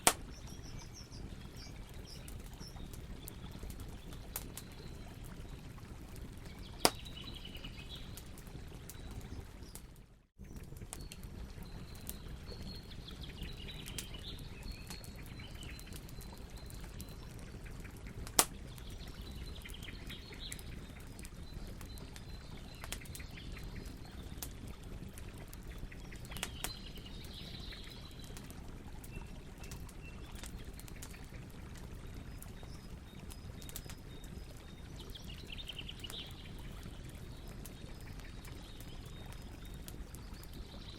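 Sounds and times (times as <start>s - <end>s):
campfire crackling: 0.0s - 40.9s
faint birds chirping: 0.2s - 40.9s.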